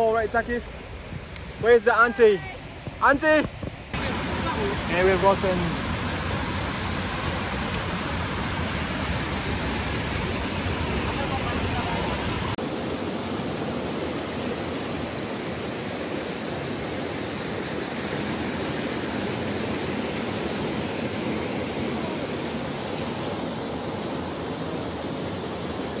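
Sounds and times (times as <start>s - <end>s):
waterfall rushing: 3.9s - 26.0s.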